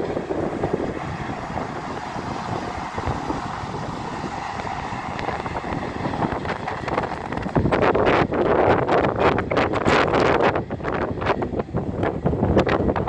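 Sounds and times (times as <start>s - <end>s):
distant train rumble: 0.0s - 13.0s
wind buffeting microphone: 0.0s - 13.0s.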